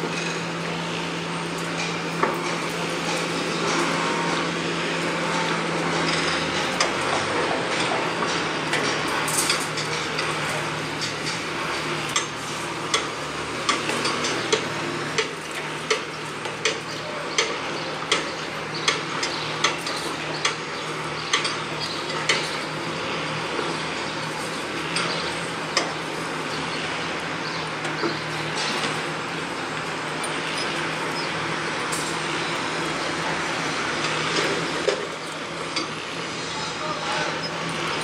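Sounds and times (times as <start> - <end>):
construction site noise: 0.0 - 38.0.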